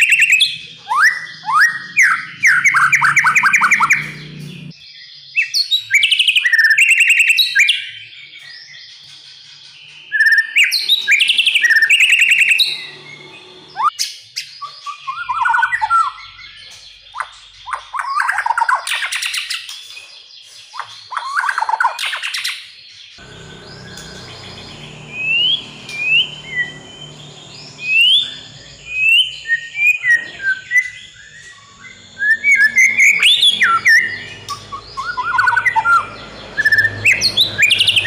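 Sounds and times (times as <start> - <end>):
bird whistled song and trills: 0.0 - 38.0.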